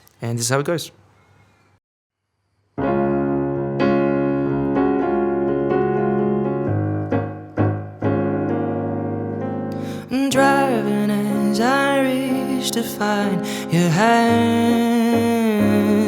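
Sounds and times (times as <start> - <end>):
piano chords: 2.8 - 16.0.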